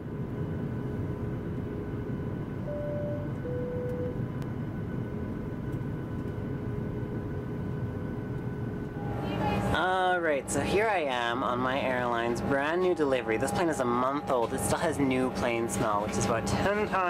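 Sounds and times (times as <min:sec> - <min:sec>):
cabin air system rumble: 0:00.0 - 0:17.0.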